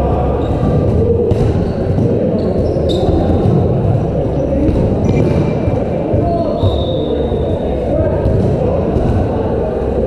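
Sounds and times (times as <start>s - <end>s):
dodgeballs bouncing and thudding: 0.0s - 10.0s
players' voices: 0.0s - 10.0s.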